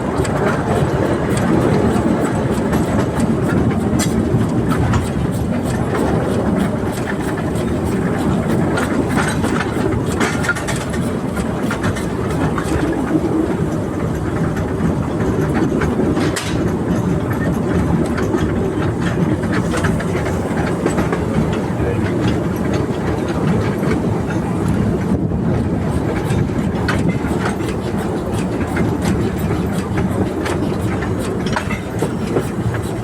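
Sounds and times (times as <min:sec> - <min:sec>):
clatter over rail joints: 0:00.0 - 0:33.0
train wheels rumbling: 0:00.0 - 0:33.0.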